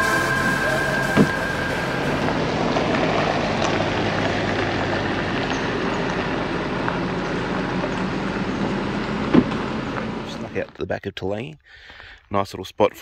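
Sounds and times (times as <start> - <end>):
tyres on gravel: 0.0 - 10.8
vehicle engine driving slowly: 0.0 - 10.8.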